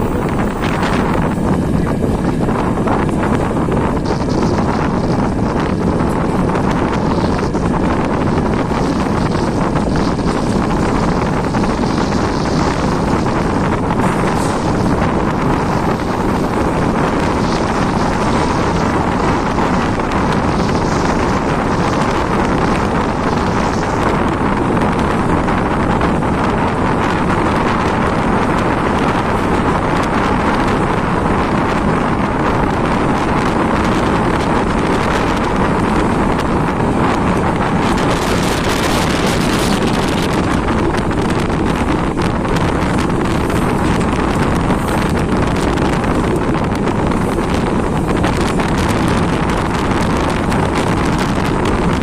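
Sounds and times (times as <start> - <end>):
passenger train rumbling: 0.0 - 52.0
wind buffeting microphone: 0.0 - 52.0.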